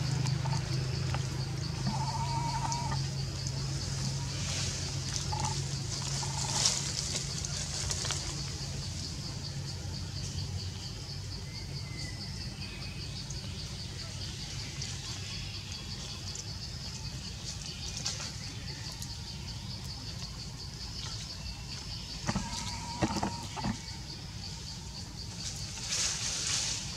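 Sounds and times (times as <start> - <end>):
pulsing insect chorus: 0.0 - 26.9.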